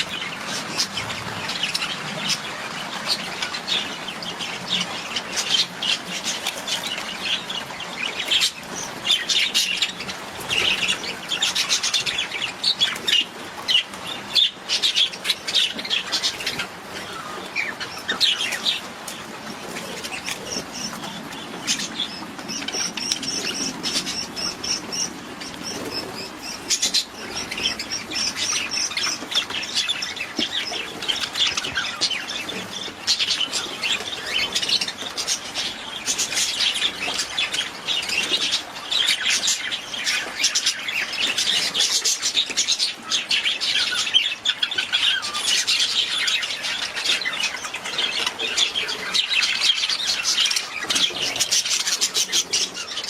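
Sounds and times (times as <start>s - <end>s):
budgerigars chirping: 0.0s - 53.0s.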